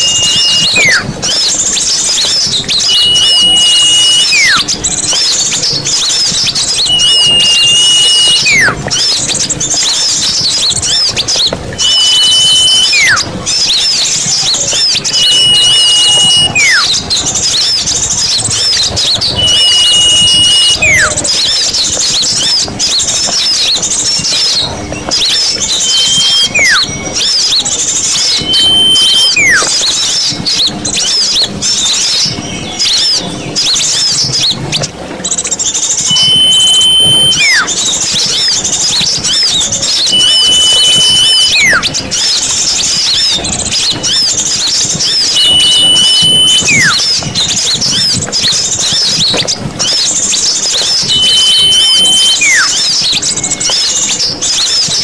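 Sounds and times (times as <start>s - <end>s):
falling whistle: 0.0s - 34.6s, 35.6s - 55.0s
many birds chirping: 0.0s - 55.0s
steady whistle: 0.0s - 55.0s.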